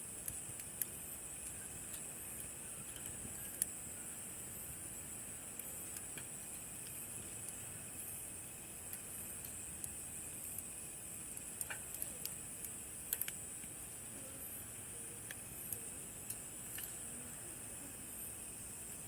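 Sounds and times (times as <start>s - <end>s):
campfire crackling and popping: 0.0s - 19.0s
insects chirring: 0.0s - 19.0s.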